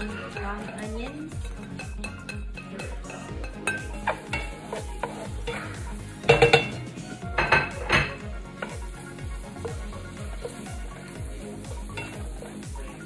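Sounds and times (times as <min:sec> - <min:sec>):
spatula scraping metal pot: 0:00.0 - 0:10.9
food sizzling in hot oil: 0:00.0 - 0:13.0.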